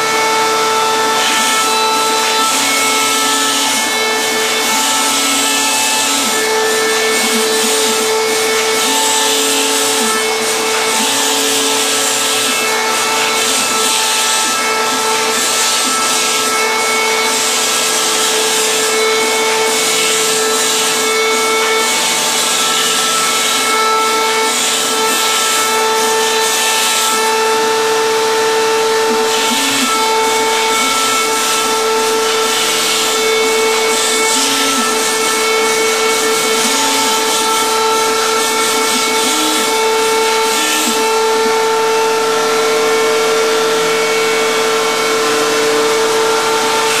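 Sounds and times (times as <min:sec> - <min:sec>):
hiss of cutting foam: 0:00.0 - 0:47.0
spindle whining: 0:00.0 - 0:47.0.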